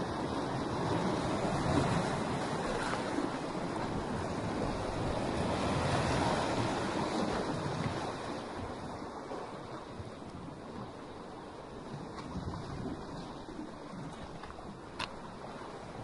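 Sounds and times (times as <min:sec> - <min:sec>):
sea surf washing over rocks: 0:00.0 - 0:16.0.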